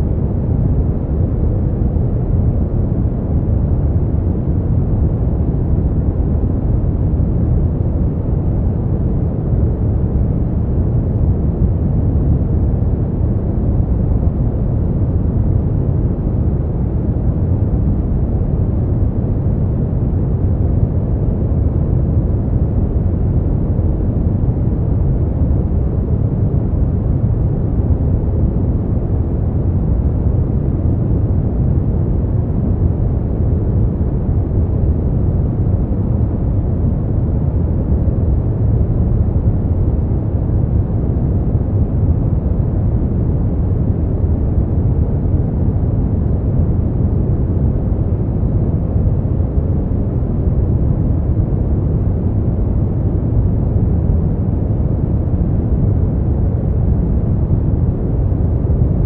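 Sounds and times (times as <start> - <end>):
deep brown noise: 0.0 - 59.0.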